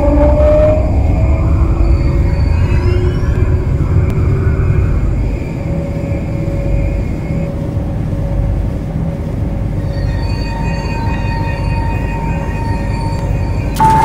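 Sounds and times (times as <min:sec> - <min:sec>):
metro train rumble: 0:00.0 - 0:14.0
thin electric whines: 0:00.0 - 0:14.0.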